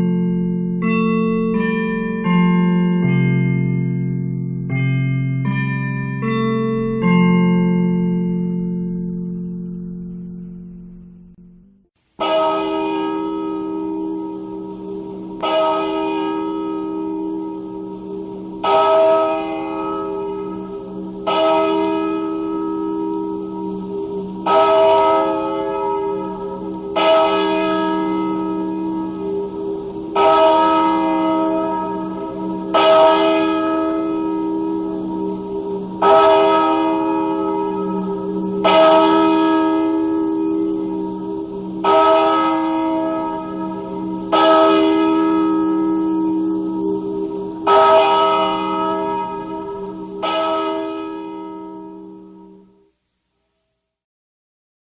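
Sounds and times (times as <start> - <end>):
church bell ringing: 0.0 - 52.9.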